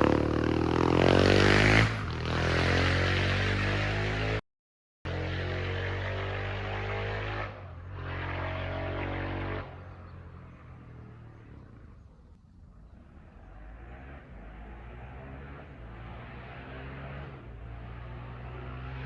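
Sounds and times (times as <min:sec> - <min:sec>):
motorcycle engine exhaust: 0:00.0 - 0:04.4, 0:05.1 - 0:19.0.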